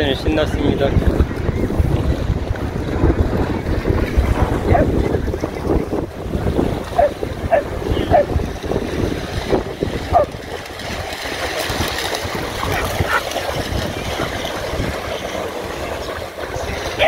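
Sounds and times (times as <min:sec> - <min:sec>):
small waves washing onto sand: 0:00.0 - 0:17.0
wind rumbling on microphone: 0:00.0 - 0:17.0.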